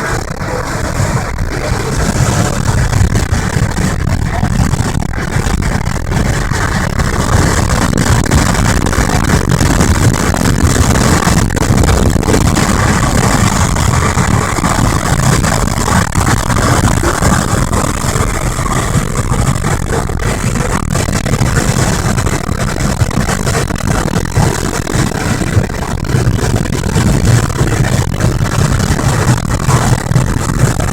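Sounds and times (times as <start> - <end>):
road and wind noise in car: 0.0 - 30.9.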